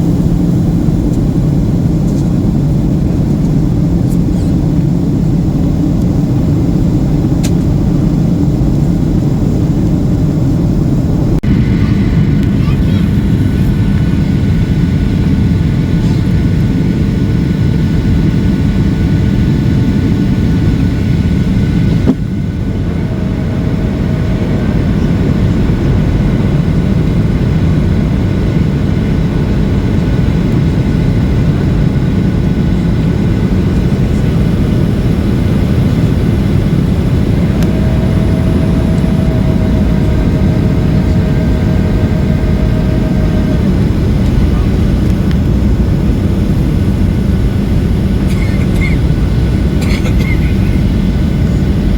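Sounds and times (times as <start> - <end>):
airplane cabin engine rumble: 0.0 - 51.9
faint steady whine: 0.0 - 51.9.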